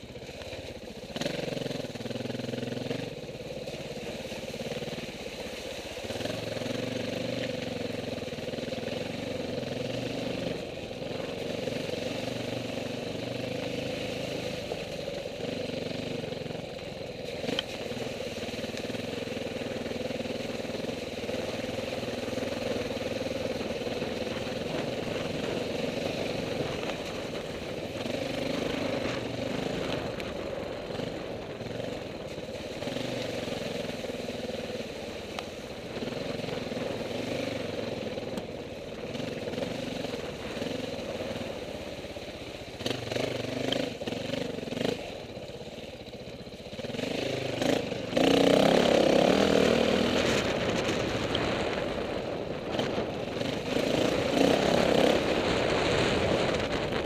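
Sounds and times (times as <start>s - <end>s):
dirt bike engine revving: 0.6s - 35.1s, 35.8s - 42.0s, 42.8s - 45.3s, 46.6s - 57.0s.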